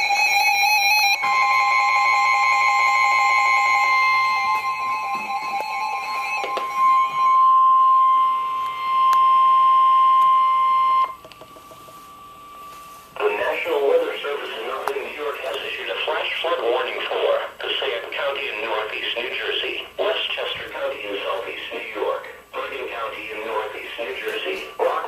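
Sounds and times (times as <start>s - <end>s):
loud steady alert tone: 0.0s - 25.0s.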